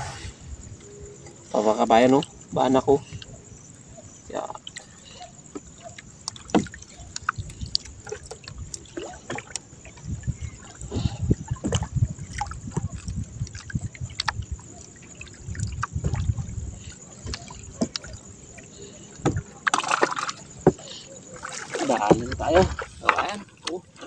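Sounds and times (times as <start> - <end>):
water dripping and splashing: 0.6 - 24.0
clicks and bumps against hull: 4.6 - 24.0.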